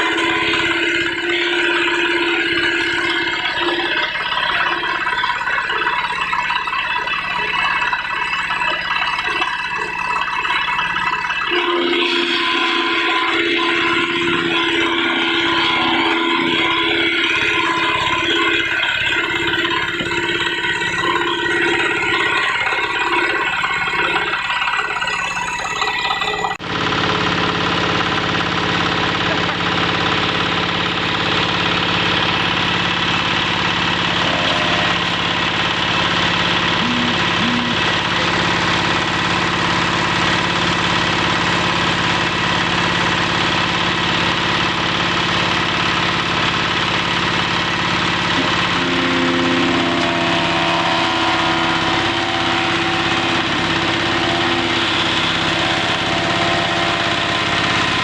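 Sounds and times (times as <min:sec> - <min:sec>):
wood chipper engine running: 0:00.0 - 0:58.0.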